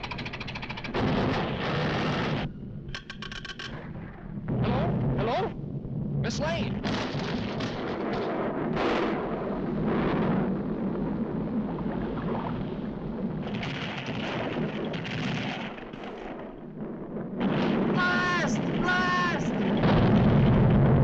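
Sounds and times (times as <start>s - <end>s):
explosive blasts: 0.9s - 2.9s, 3.8s - 21.0s
low rumbling: 3.7s - 21.0s.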